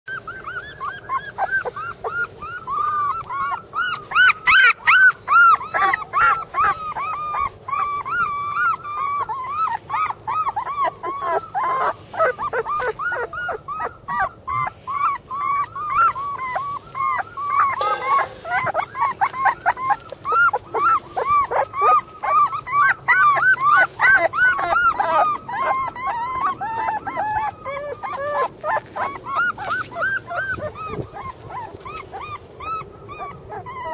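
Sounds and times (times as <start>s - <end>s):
puppies whimpering and squeaking: 0.1s - 33.9s.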